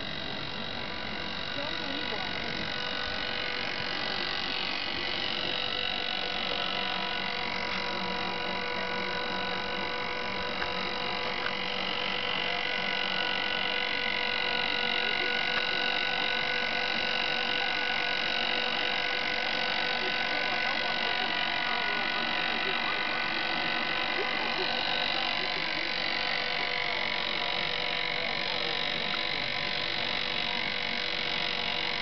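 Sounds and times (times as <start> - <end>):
electric winch motor whining: 0.0 - 32.0.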